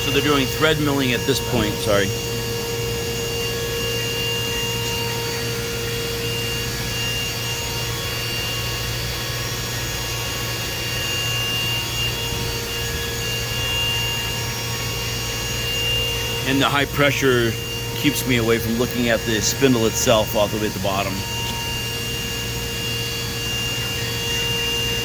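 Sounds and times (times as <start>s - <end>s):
machining center milling metal: 0.0s - 25.0s.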